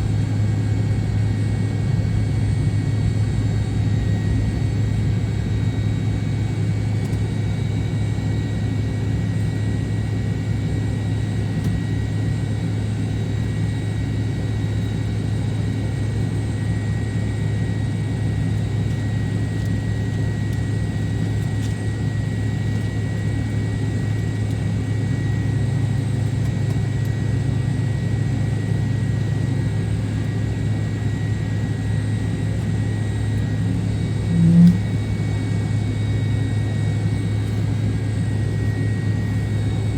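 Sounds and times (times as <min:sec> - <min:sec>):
faint steady whine: 0:00.0 - 0:39.9
jet engines low hum: 0:00.0 - 0:39.9.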